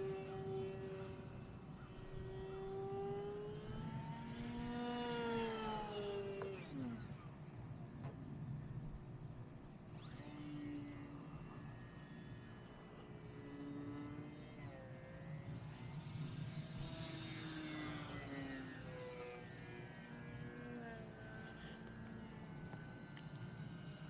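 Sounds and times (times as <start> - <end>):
model plane motor whining: 0.0 - 8.4, 9.2 - 24.0.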